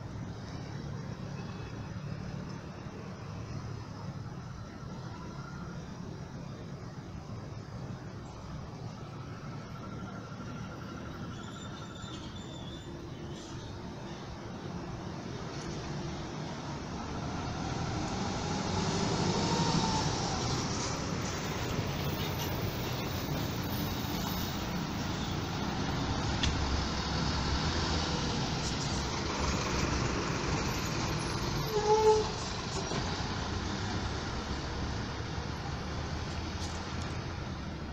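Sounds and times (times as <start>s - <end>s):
traffic noise: 0.0s - 37.9s
bus diesel engines running: 2.0s - 37.9s.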